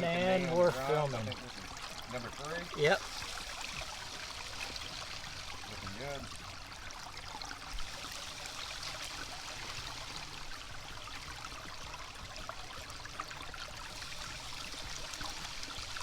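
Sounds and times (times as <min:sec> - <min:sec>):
creek water running through sluice box: 0:00.0 - 0:16.0.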